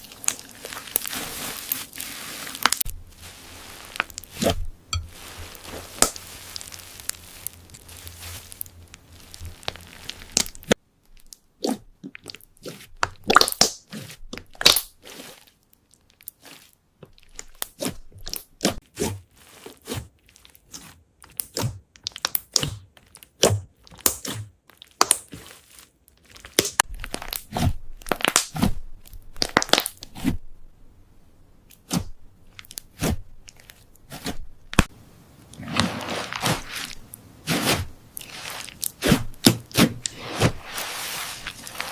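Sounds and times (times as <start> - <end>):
slime crunching and crackling: 0.0 - 30.3, 31.7 - 34.9, 35.5 - 41.9.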